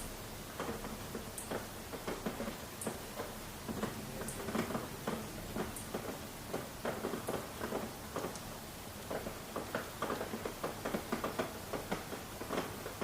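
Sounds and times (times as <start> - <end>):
light rain hiss: 0.0 - 13.0
rain drops tapping: 0.0 - 13.0.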